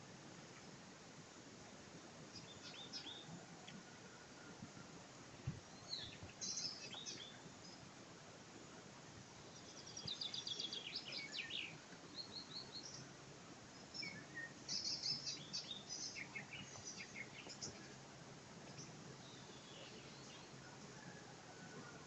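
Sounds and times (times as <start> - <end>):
faint background hiss: 0.0 - 22.0
songbirds chirping: 0.0 - 22.0.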